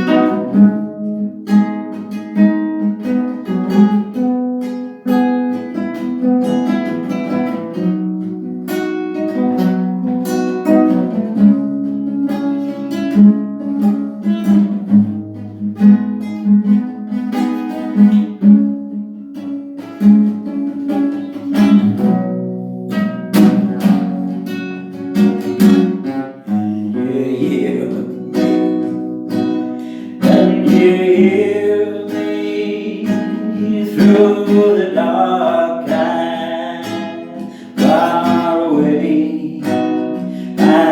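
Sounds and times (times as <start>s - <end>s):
acoustic guitar playing chords: 0.0s - 40.9s.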